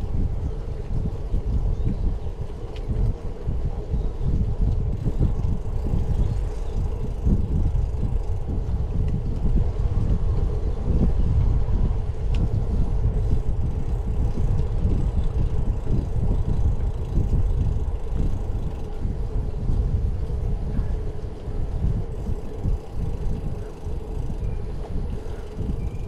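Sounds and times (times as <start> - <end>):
bicycle road rumble: 0.0 - 26.0
wind buffeting microphone: 0.0 - 26.0.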